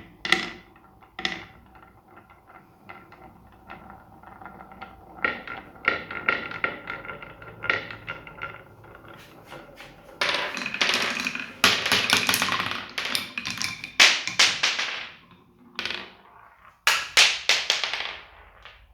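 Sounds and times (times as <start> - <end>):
marbles clattering down track: 0.0 - 18.9.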